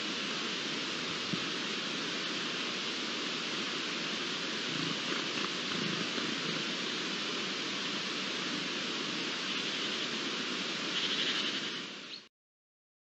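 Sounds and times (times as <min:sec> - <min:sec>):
outdoor ambient hiss: 0:00.0 - 0:12.3.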